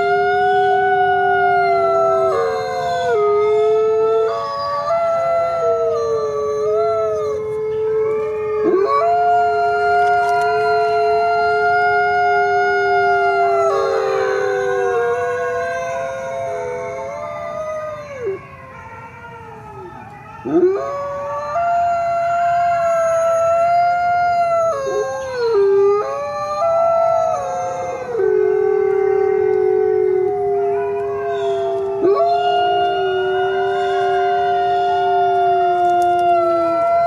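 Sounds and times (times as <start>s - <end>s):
coyotes howling: 0.0s - 37.0s.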